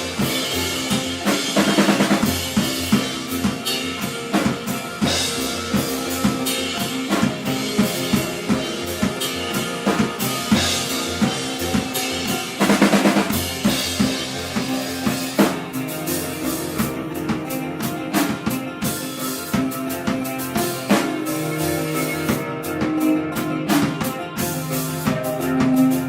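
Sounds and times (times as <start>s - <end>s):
drum kit beat: 0.0s - 26.0s
live band playing: 0.0s - 26.0s.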